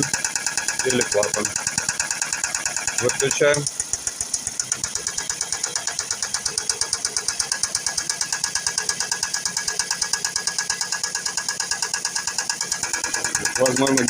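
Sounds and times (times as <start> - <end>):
car engine knocking clatter: 0.0 - 14.0.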